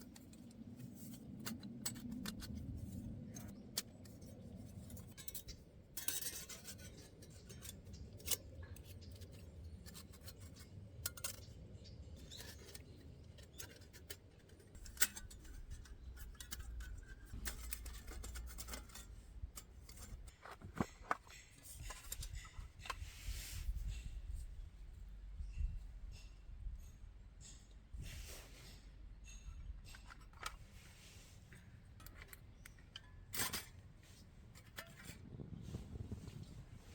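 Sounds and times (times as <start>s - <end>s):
hands handling gear clicks and scrapes: 0.0s - 24.0s, 29.7s - 36.9s.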